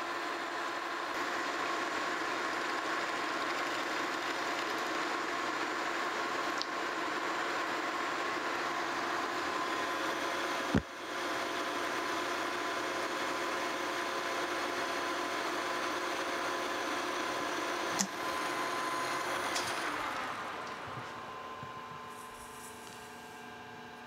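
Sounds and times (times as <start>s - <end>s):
metal lathe whining: 0.0s - 24.0s.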